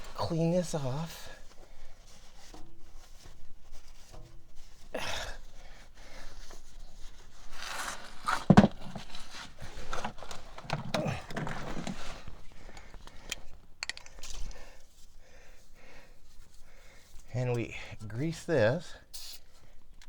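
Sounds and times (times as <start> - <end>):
rustling and scraping while wiping: 0.0 - 13.8, 14.4 - 18.8.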